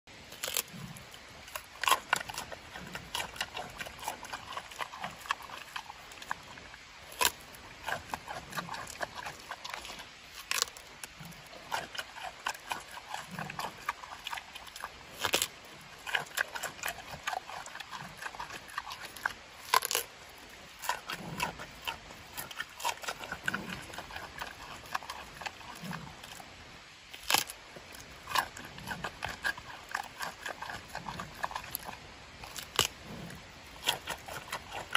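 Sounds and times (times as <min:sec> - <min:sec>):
panda chewing wet crunches: 0:00.3 - 0:26.5, 0:27.1 - 0:34.9.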